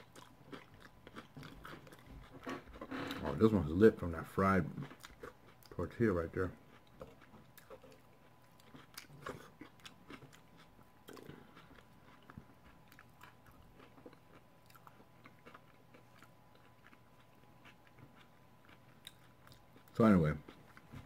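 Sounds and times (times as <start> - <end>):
chewing crispy taco: 0.0 - 21.0.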